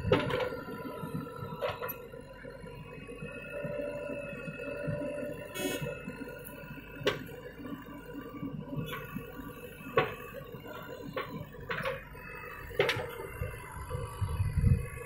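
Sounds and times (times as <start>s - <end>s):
diesel engine and hydraulics whining: 0.0s - 15.0s.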